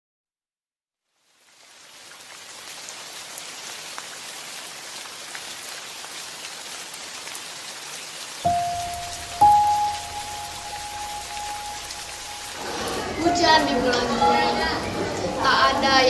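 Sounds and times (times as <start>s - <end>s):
steady rain falling: 1.1s - 16.0s.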